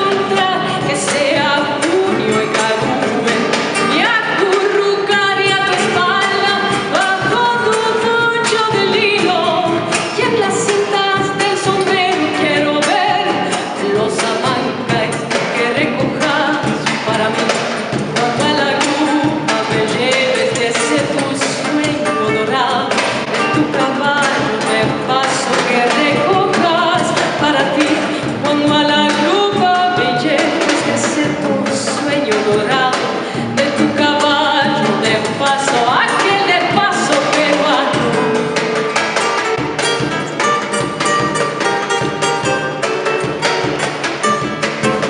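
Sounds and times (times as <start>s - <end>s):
woman singing: 0.0s - 43.2s
classical guitar: 0.0s - 45.0s
hand drum: 0.0s - 45.0s.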